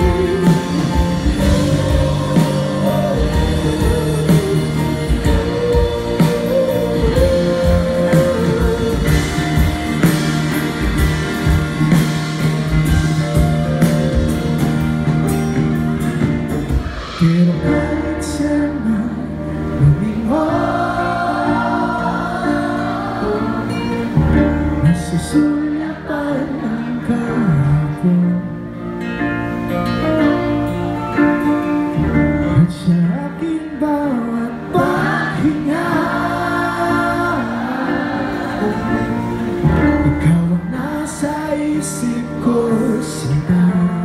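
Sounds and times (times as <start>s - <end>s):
person singing: 0.0s - 11.7s, 16.6s - 29.1s, 31.0s - 44.0s
acoustic guitars: 0.0s - 44.0s
bass: 0.0s - 44.0s
drums: 0.0s - 44.0s.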